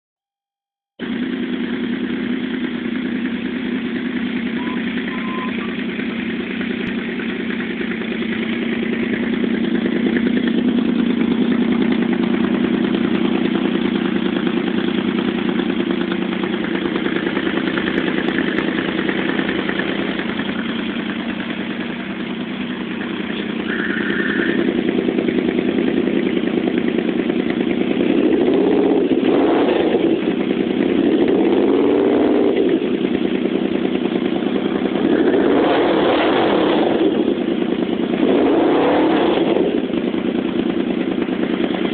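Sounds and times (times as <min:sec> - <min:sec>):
motorcycle engine idling and revving: 0:00.8 - 0:41.9.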